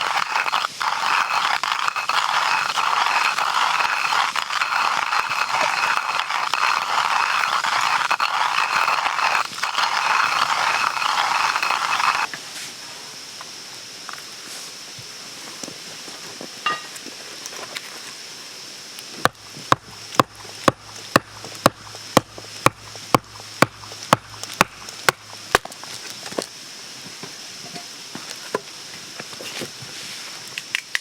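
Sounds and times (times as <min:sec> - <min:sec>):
steady high-pitched hiss: 0:00.0 - 0:31.0.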